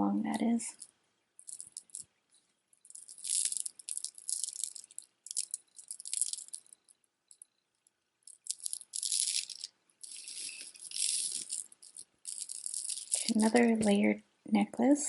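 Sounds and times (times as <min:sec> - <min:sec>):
glass beads clicking and rattling: 0:00.6 - 0:02.1, 0:02.8 - 0:13.8.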